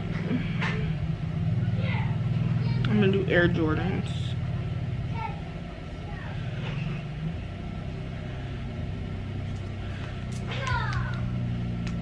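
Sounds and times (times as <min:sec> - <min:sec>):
low layered hum: 0:00.0 - 0:12.0.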